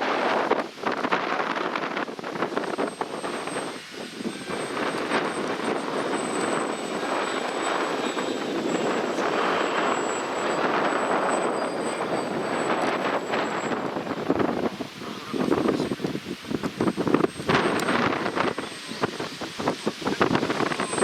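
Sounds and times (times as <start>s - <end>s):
model airplane motor whining: 0.0s - 21.0s
wind noise on microphone: 0.0s - 21.0s.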